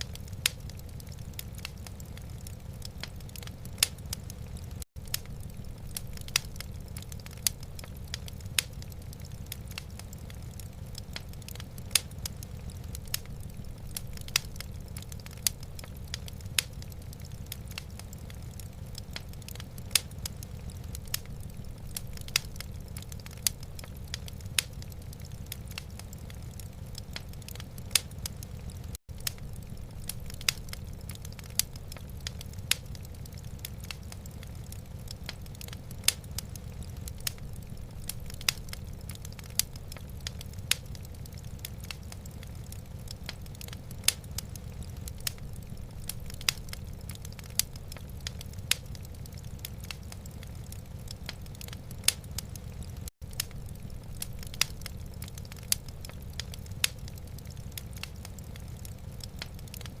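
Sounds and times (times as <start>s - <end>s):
low fire rumble: 0.0s - 60.0s
wood fire crackling and popping: 0.0s - 60.0s.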